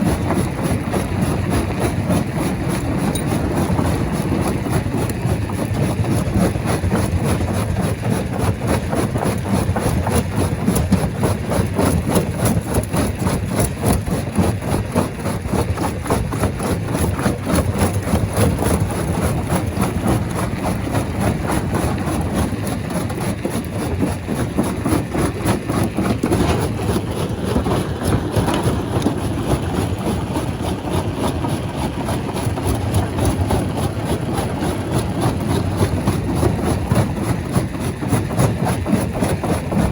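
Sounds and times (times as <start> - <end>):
rock crusher machine clattering: 0.0 - 39.9.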